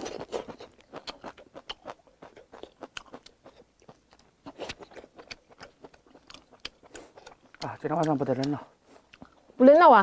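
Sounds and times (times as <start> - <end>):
lip smacks: 0.0 - 9.4
chewing with wet clicks: 0.0 - 10.0.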